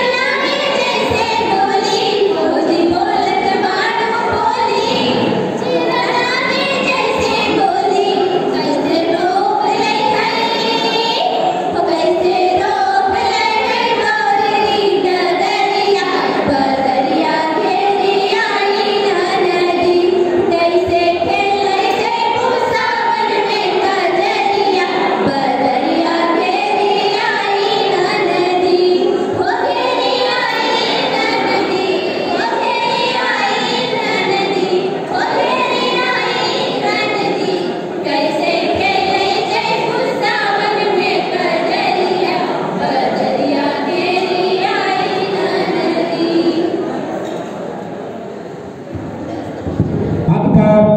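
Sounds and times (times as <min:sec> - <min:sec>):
women singing folk song: 0:00.0 - 0:46.8.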